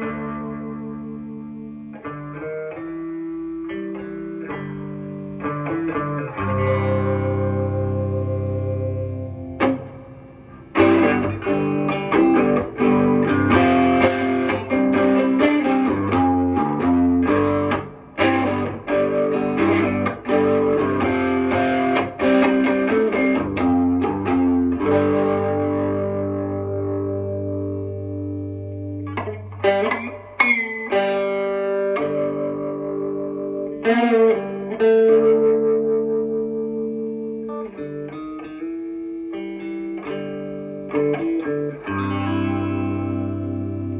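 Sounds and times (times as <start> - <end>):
electric guitar notes and chords: 0.0 - 43.9.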